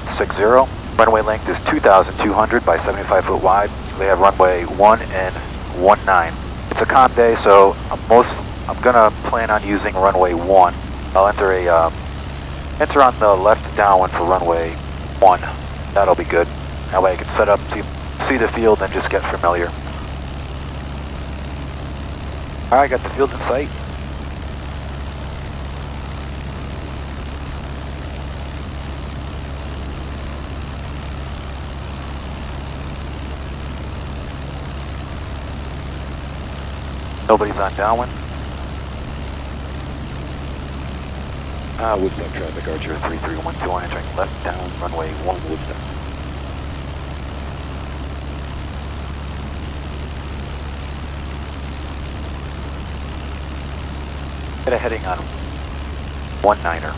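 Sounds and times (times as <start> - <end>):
airplane engine droning: 0.0 - 56.9.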